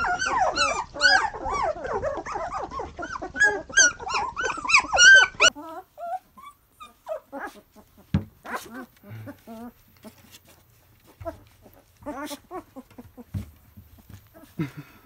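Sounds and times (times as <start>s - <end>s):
puppy squeaks: 0.0s - 13.5s
puppies whining and yelping: 0.0s - 14.6s.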